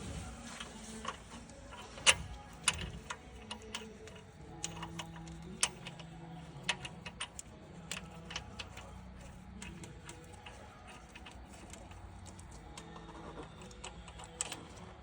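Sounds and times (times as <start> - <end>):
hand tools clicking and tapping: 0.6 - 15.0.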